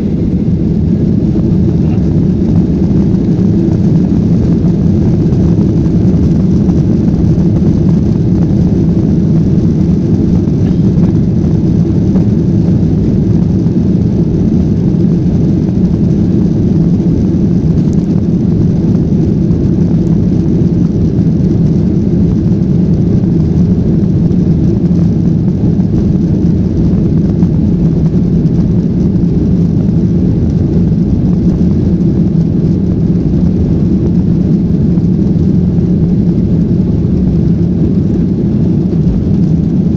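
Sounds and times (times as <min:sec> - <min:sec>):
jet engines and airflow in cabin: 0:00.0 - 0:39.9.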